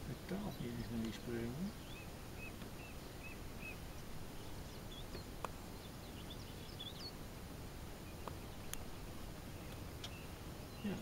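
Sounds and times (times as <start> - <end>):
outdoor background noise: 0.0 - 11.0
songbirds chirping: 0.0 - 11.0.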